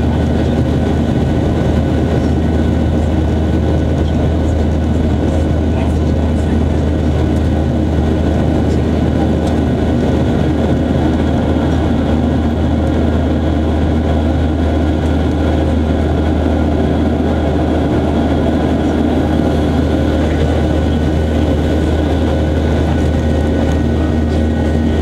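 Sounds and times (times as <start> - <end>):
airplane cabin engine drone: 0.0 - 25.0.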